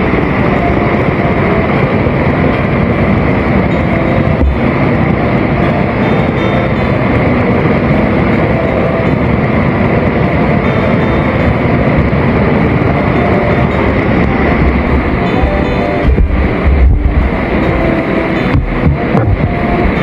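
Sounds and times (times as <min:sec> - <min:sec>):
rushing water at a dam: 0:00.0 - 0:20.0.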